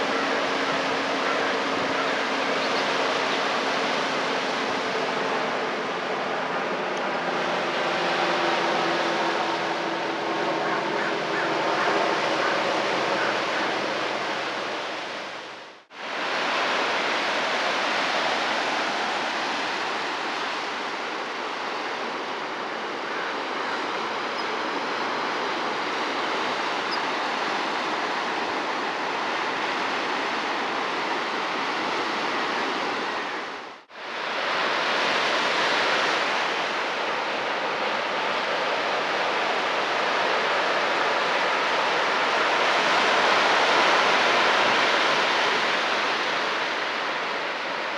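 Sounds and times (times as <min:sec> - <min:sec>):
surf washing over rocky shore: 0:00.0 - 0:47.9.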